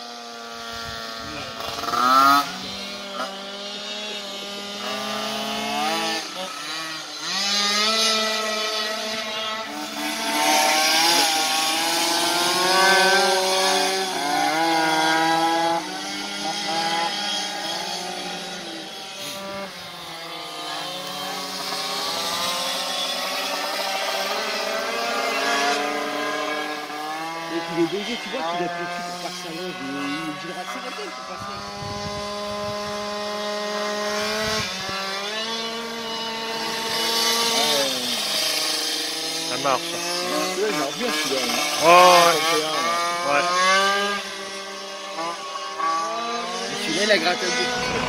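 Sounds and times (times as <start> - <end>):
two-stroke moped engine revving: 0.0 - 48.0.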